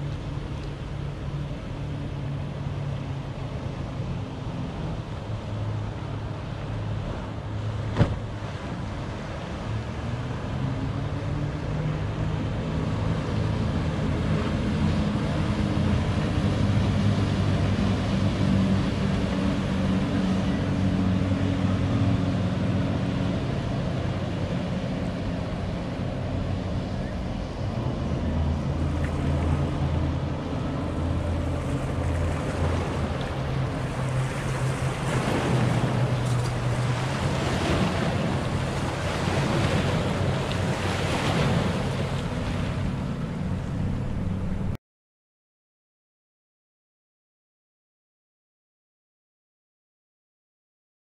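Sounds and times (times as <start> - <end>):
motorboat engines humming: 0.0 - 44.8
wind and water: 0.0 - 44.8.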